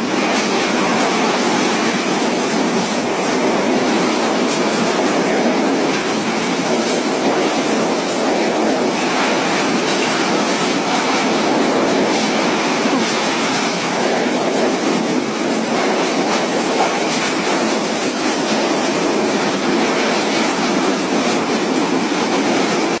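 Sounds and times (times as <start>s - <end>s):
driving rain: 0.0s - 23.0s
strong wind: 0.0s - 23.0s.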